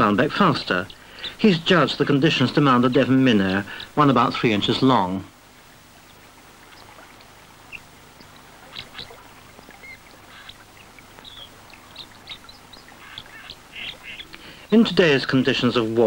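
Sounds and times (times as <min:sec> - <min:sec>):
birds chirping: 0:00.0 - 0:05.1, 0:05.8 - 0:16.0.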